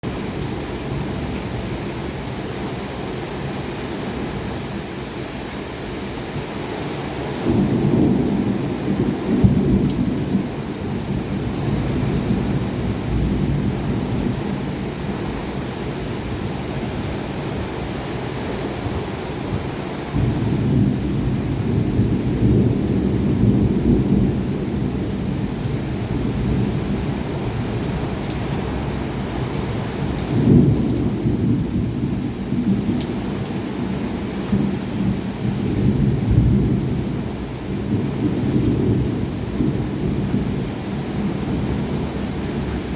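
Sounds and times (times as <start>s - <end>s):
heavy rain falling: 0.0s - 42.9s
thunder rumbling: 6.8s - 42.9s.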